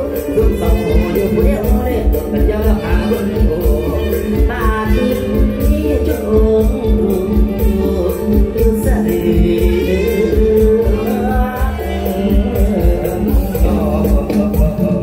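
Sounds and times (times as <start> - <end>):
drum beat with cymbal ticks: 0.0 - 15.0
man singing into a microphone: 0.0 - 15.0.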